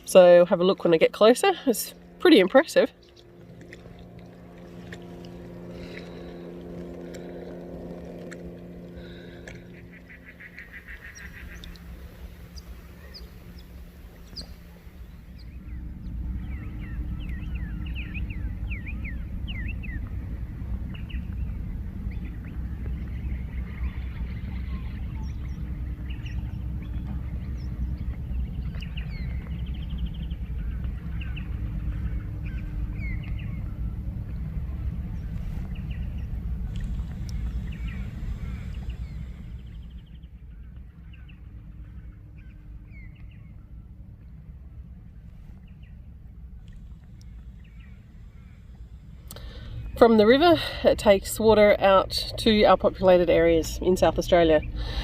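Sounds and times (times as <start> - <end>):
birds chirping: 0.0 - 55.0
low hum and rumble: 0.0 - 55.0.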